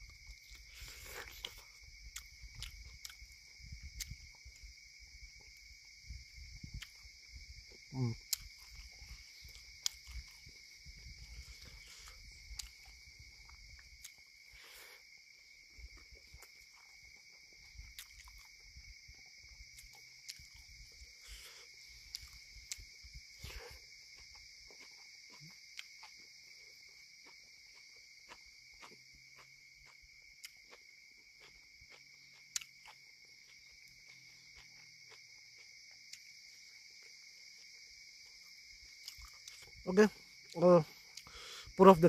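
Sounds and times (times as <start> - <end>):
night insects trilling: 0.0 - 42.0.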